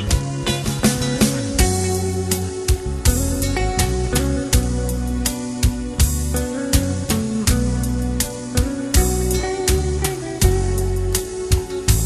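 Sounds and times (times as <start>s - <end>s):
guitar-led background music: 0.0s - 12.0s.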